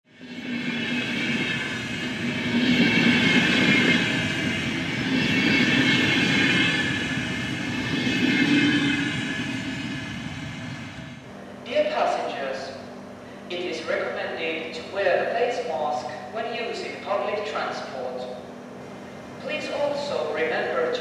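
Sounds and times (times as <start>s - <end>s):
train rumbling past: 0.1s - 21.0s.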